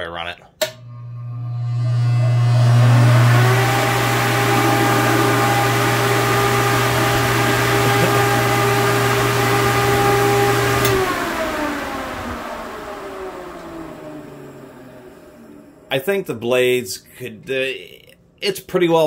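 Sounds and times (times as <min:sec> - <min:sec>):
ventilation fan running: 0:00.6 - 0:17.8.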